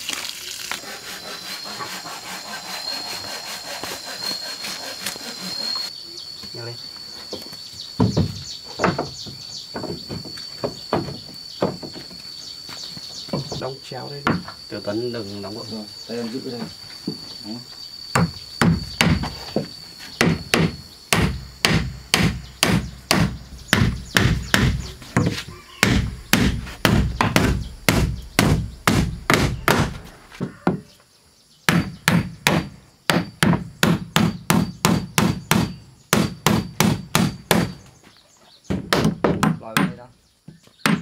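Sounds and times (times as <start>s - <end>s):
high insect trill: 0.0s - 41.0s.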